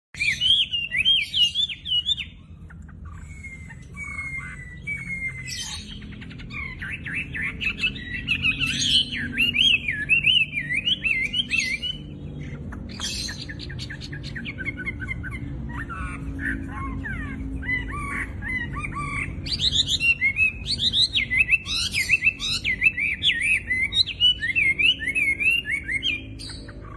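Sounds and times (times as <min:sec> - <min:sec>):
songbird singing whistles: 0:00.2 - 0:02.5, 0:03.1 - 0:26.9.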